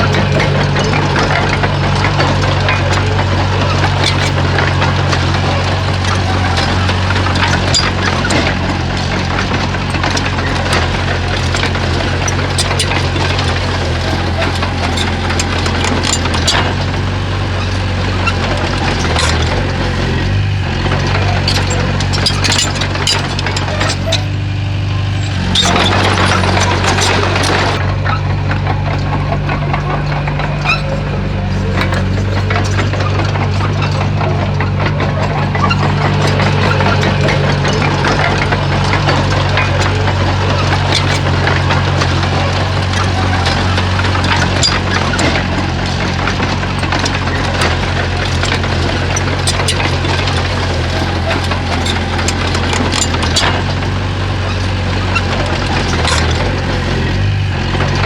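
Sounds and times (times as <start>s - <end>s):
bulldozer diesel engine: 0.0s - 58.0s
metallic clanks and knocks: 0.0s - 58.0s.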